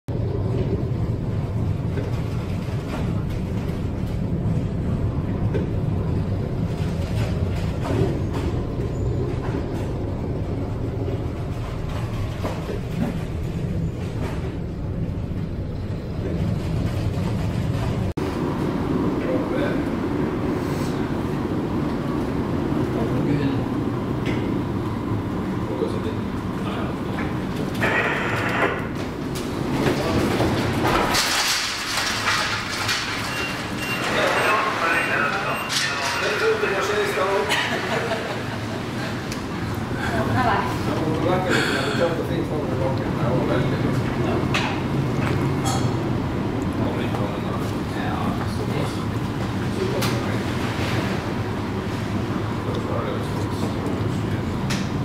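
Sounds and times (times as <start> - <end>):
low rumble of wind and ship: 0.1 - 55.0.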